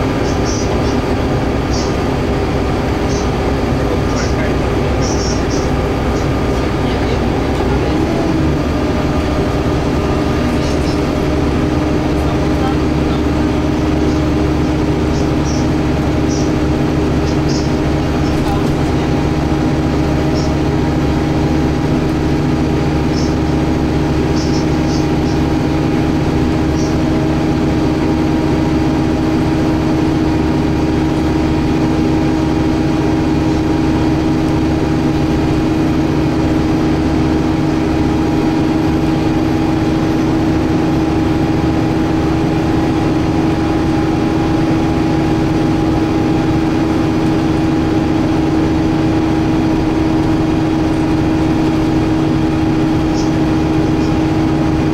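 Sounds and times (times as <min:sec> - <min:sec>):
bus engine drone with whine: 0:00.0 - 0:54.9.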